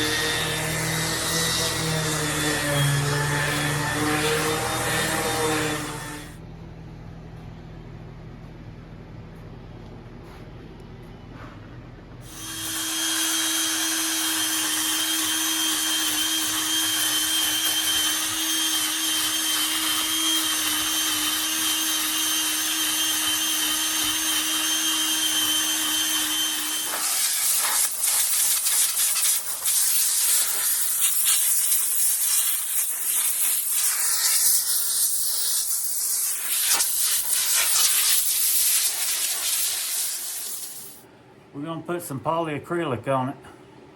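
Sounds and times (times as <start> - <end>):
power tool whining on wood: 0.0 - 6.4, 12.2 - 41.0.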